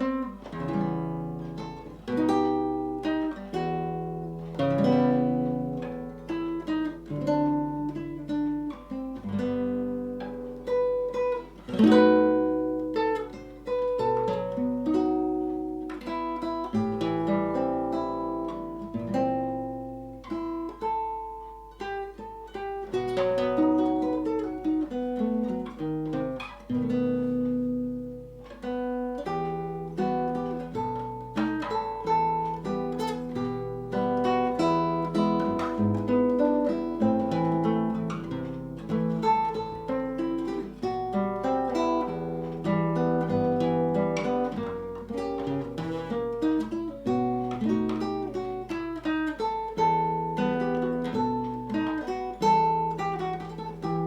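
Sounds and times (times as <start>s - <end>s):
solo acoustic guitar: 0.0s - 54.0s.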